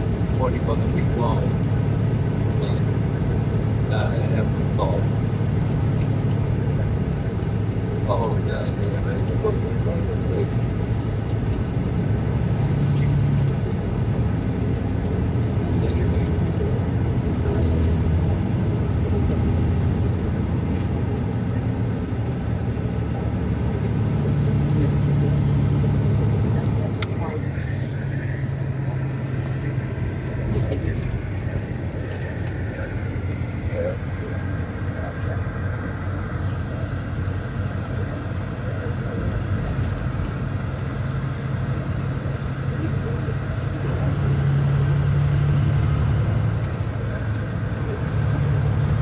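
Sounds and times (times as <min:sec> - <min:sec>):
road noise inside cab: 0:00.0 - 0:49.0
truck diesel engine drone: 0:00.0 - 0:49.0.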